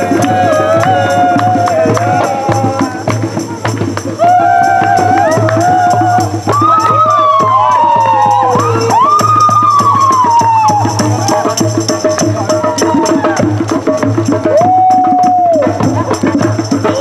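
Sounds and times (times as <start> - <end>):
hand percussion clattering: 0.0 - 17.0.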